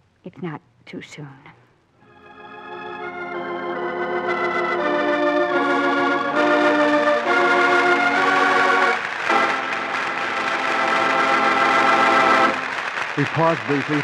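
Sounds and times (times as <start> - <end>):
organ sustained chords: 2.0 - 14.0.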